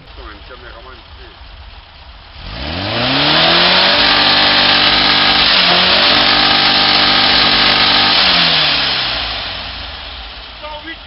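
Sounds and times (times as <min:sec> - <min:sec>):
engine revving through loud exhaust: 0:02.1 - 0:11.0.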